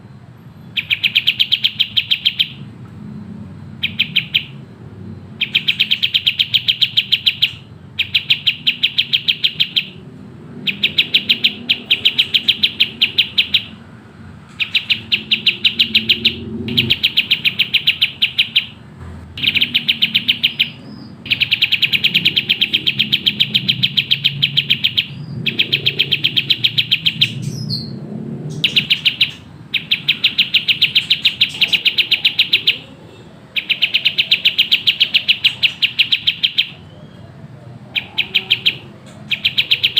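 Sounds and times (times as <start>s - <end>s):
songbird chirping rapid high notes: 0.0s - 39.9s.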